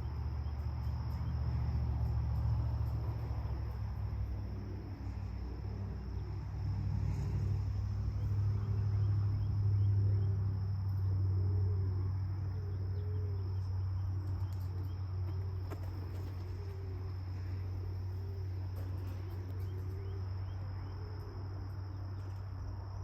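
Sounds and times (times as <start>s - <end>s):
insect trill: 0.0s - 23.0s
soft low cooing calls: 2.6s - 22.4s.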